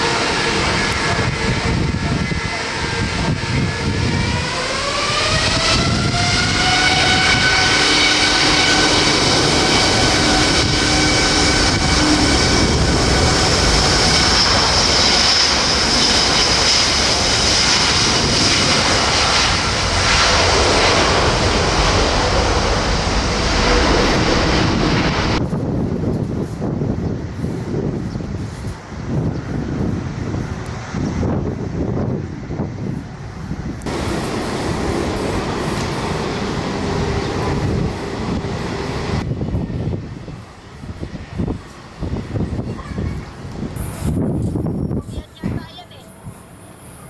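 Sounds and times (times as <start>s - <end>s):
jet engine roar: 0.0s - 47.0s
jet engine whine: 0.0s - 47.0s.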